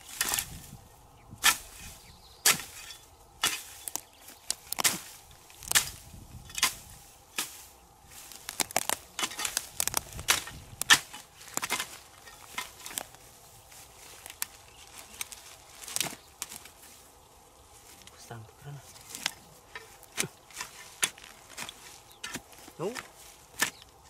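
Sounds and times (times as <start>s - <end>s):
blade chopping dry grass and twigs: 0.0s - 0.7s, 1.3s - 17.0s, 18.9s - 24.0s.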